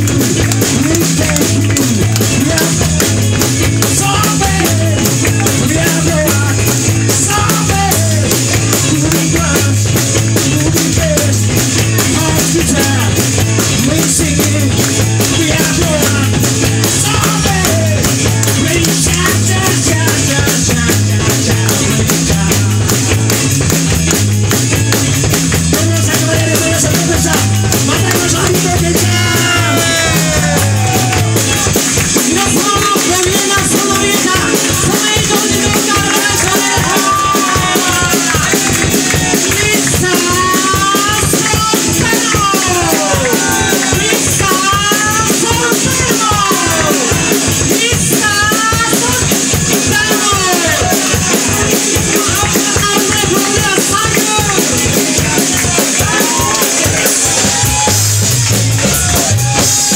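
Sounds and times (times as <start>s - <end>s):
drum kit fast beat: 0.0s - 59.9s
live band playing: 0.0s - 59.9s.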